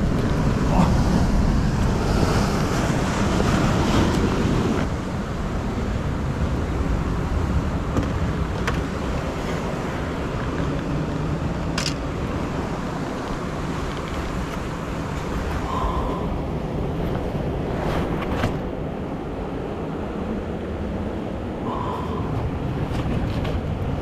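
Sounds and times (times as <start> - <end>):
ocean surf: 0.0 - 24.0.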